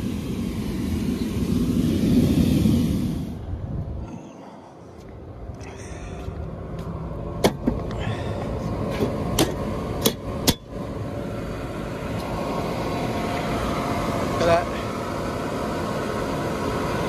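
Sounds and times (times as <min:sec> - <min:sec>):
rooftop heating unit running: 0:00.0 - 0:17.0.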